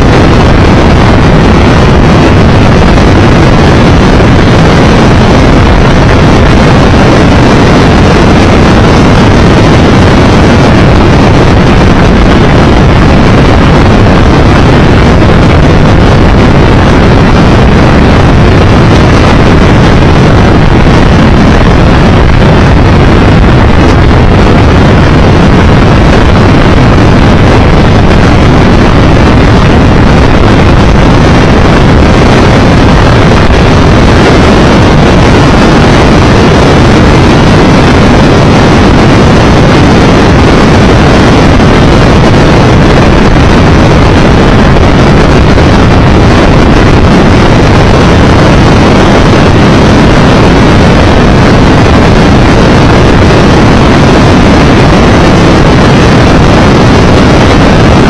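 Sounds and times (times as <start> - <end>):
motorcycle engine and road noise: 0.0 - 55.1
wind rushing over microphone: 0.0 - 58.0.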